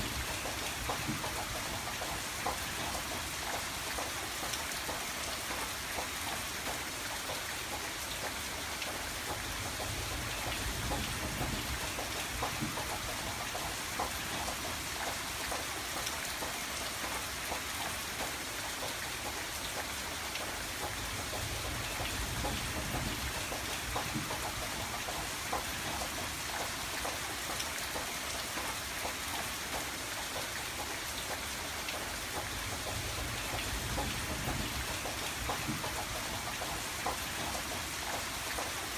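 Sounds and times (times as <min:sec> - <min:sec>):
rain pattering on a window: 0:00.0 - 0:38.9.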